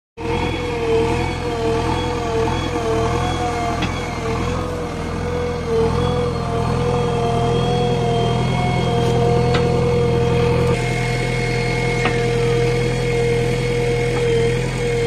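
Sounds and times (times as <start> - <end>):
diesel engine running: 0.2 - 15.0
hydraulic whine: 0.2 - 15.0.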